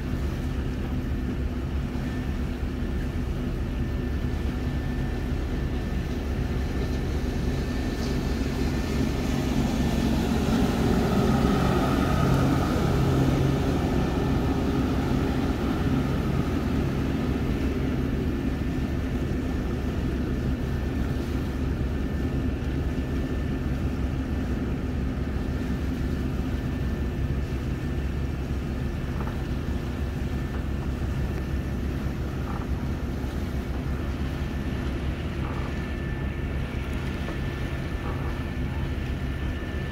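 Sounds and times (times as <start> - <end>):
high engine whine: 0.0 - 39.9
marine engine drone: 0.0 - 39.9.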